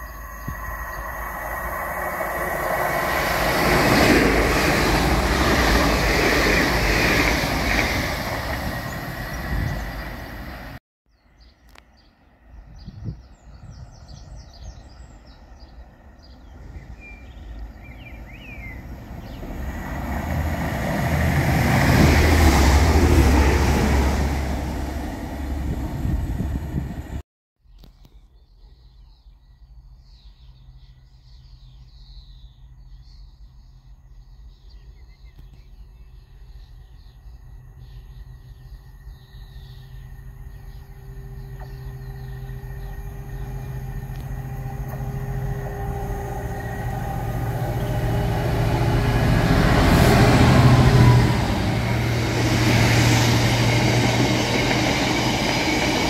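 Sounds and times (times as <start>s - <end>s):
train passing at speed: 0.0s - 10.8s, 12.1s - 27.2s, 36.2s - 56.0s
birds chirping: 0.0s - 22.6s, 27.8s - 56.0s.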